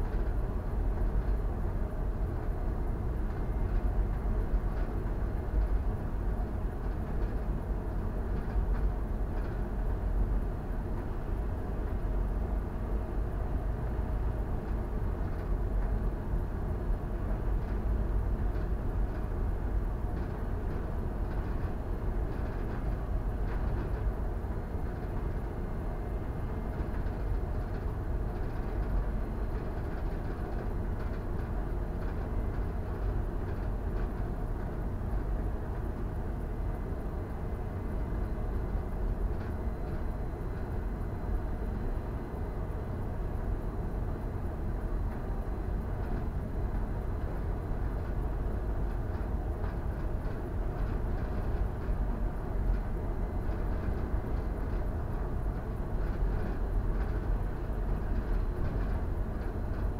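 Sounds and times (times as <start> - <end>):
ship engine low rumble: 0.0 - 59.9.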